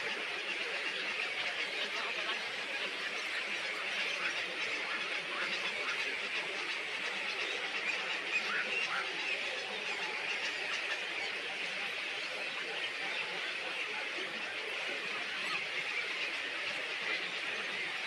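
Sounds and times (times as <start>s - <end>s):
birds chirping and chattering: 0.0s - 18.0s.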